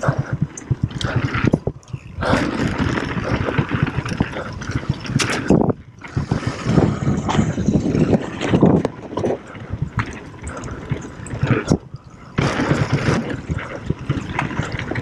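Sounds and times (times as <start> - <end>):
tyres rolling on dirt: 0.0 - 11.8, 12.4 - 15.0
bike clattering over bumps: 0.0 - 15.0.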